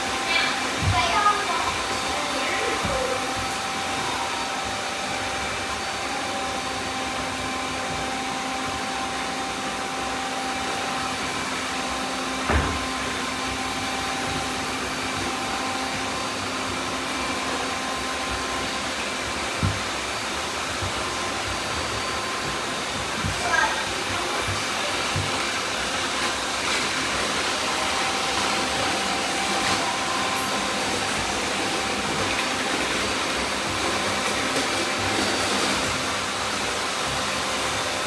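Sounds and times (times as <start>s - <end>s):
robot vacuums whirring: 0.0s - 38.0s.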